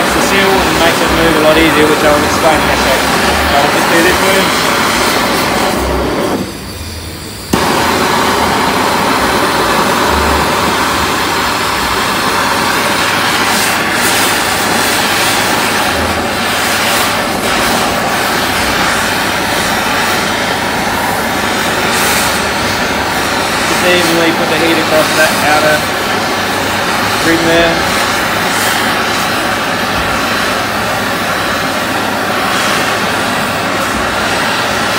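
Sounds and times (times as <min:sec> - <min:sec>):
gas torch hissing: 0:00.0 - 0:34.9.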